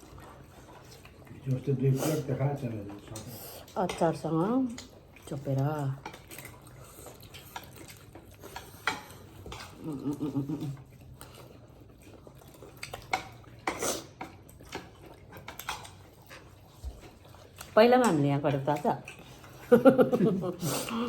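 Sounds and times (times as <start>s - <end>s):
chewing and smacking: 0.0s - 21.0s.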